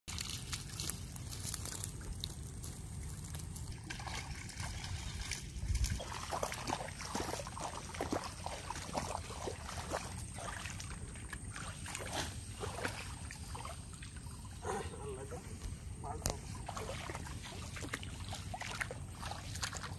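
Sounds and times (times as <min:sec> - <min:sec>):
water splashing and sloshing: 0:00.1 - 0:19.9.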